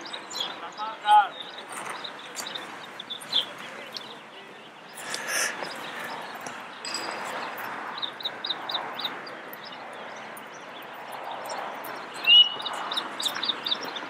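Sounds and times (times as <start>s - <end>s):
bird chirping: 0.0s - 14.0s
outdoor background noise: 0.0s - 14.0s.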